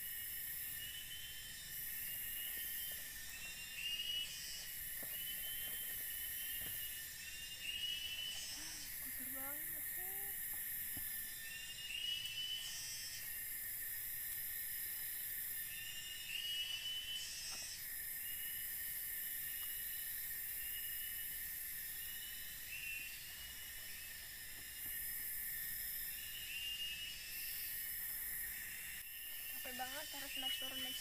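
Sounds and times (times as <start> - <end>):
insects buzzing: 0.0 - 31.0.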